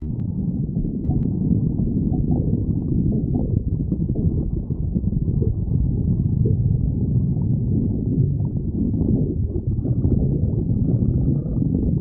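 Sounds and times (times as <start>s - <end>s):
stomach growling: 0.0s - 12.0s
stomach gurgles: 0.0s - 12.0s.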